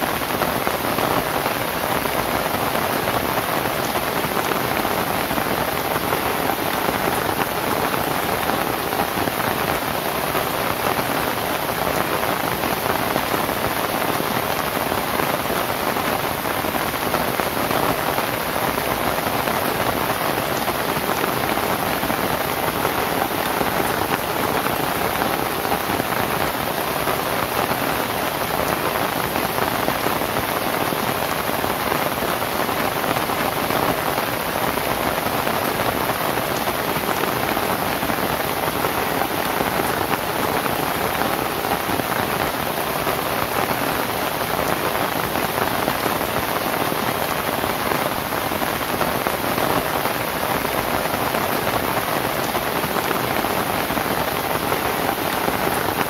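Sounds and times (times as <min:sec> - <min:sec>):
rain on a thatched roof: 0:00.0 - 0:56.0.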